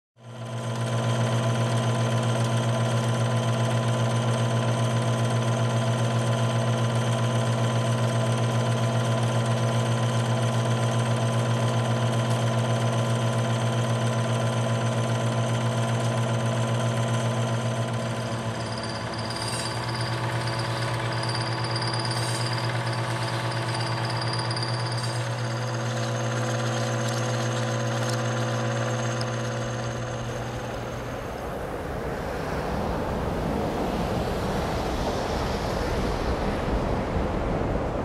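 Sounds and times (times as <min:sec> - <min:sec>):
film projector running: 0:00.2 - 0:31.7.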